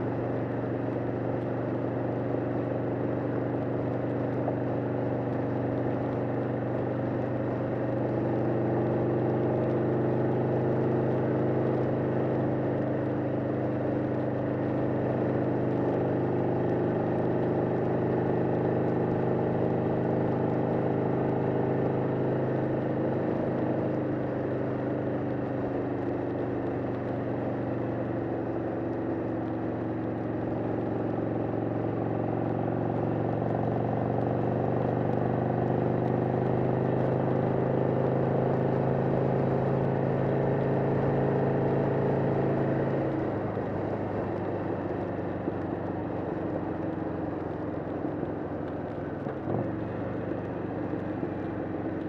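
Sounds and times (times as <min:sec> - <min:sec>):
motorcycle engine cruising: 0:08.4 - 0:52.0.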